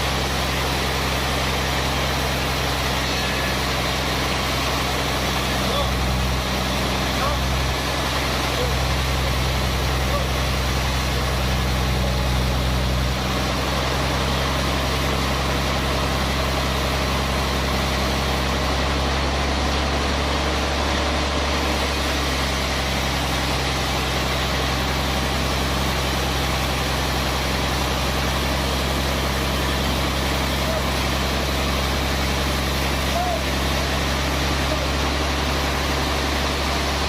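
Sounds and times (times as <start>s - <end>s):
sawmill machinery humming: 0.0s - 37.0s.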